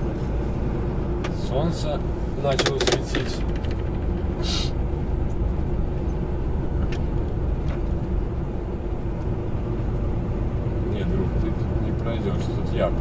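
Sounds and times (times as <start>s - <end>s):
truck engine drone and road noise: 0.0s - 13.0s.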